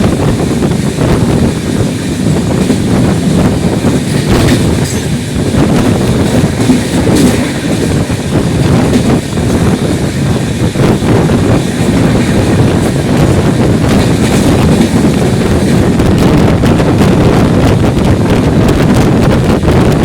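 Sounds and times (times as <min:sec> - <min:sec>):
train rumbling: 0:00.0 - 0:20.0
wind buffeting microphone: 0:00.0 - 0:20.0.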